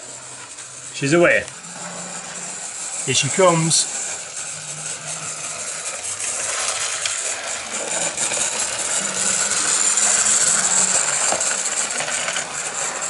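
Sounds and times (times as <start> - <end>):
electric motor whirring: 0.0 - 13.0
wheels rattling over rails: 0.0 - 13.0.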